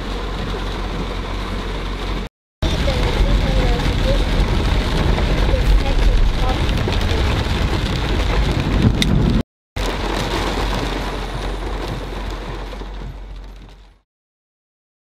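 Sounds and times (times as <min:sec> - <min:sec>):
heavy rain on window glass: 0:00.0 - 0:14.0
steady low rumble: 0:00.0 - 0:14.0.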